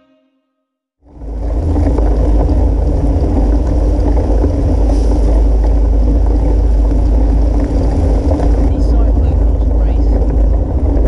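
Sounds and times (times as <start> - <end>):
wind buffeting microphone: 1.0 - 11.0
tyres hissing on wet path: 1.1 - 11.0.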